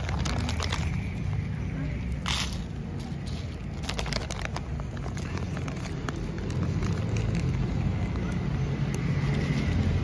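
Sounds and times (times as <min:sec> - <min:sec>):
cat crunching dry kibble: 0:00.0 - 0:10.0
street traffic rumble: 0:00.0 - 0:10.0.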